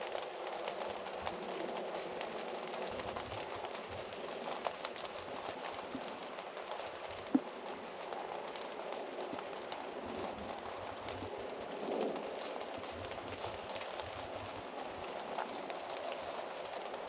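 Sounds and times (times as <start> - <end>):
rain pattering and dripping: 0.0 - 17.0.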